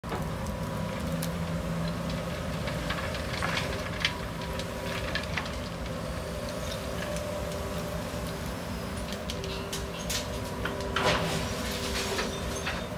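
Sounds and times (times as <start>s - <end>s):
diesel locomotive engine rumbling: 0.0s - 12.9s.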